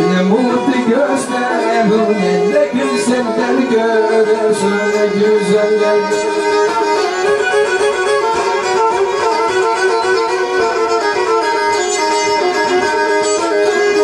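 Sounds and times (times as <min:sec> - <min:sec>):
bowed fiddle melody: 0:00.0 - 0:14.0.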